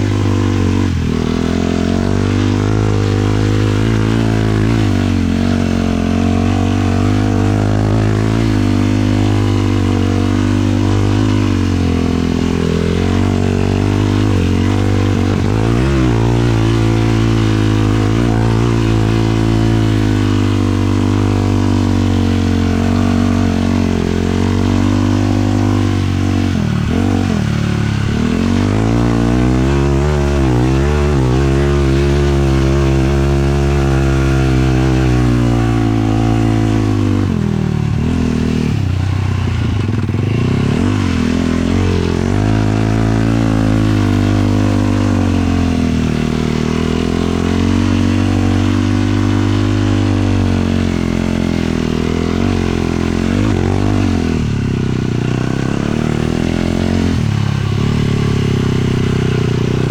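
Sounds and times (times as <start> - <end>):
quad engine under throttle: 0.0 - 59.9.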